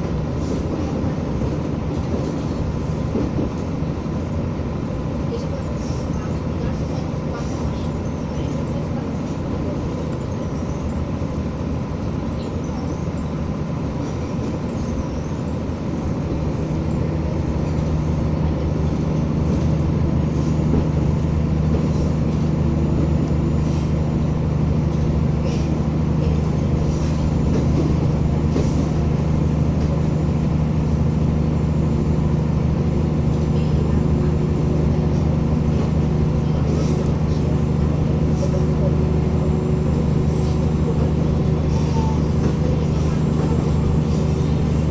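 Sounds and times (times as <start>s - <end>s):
diesel railcar engine humming: 0.0s - 44.9s.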